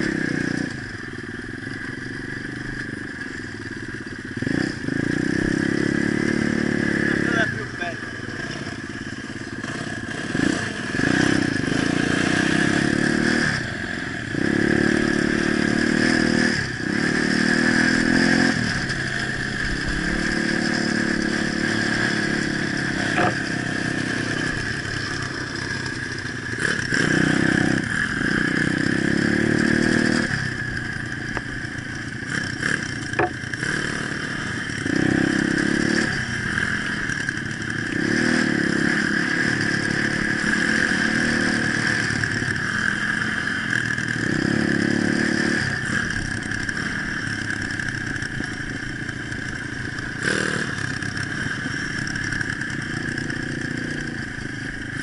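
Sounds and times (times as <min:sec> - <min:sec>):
knocks and rattles on dirt track: 0:00.0 - 0:55.0
motorbike engine revving: 0:00.0 - 0:55.0.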